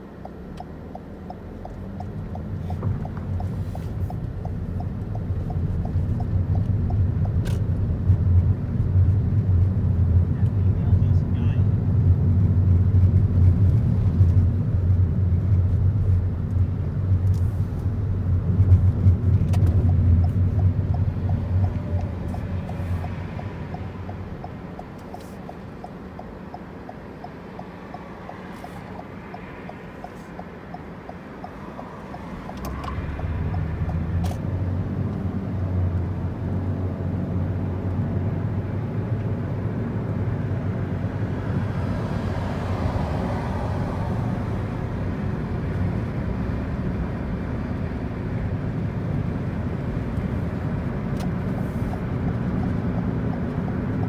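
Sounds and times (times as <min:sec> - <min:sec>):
car engine and tyre rumble: 0:00.0 - 0:54.0
turn signal ticking: 0:00.0 - 0:54.0.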